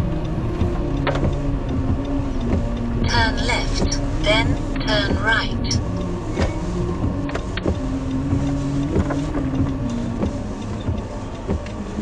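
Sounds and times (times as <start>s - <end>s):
car engine humming: 0.0s - 12.0s
ticks: 0.2s - 12.0s.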